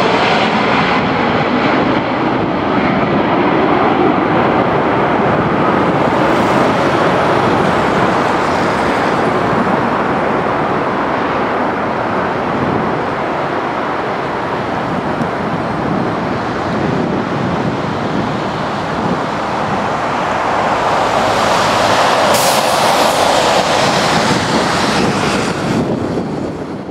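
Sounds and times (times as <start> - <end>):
jet engines roaring: 0.0 - 26.9
wind buffeting microphone: 0.0 - 26.9.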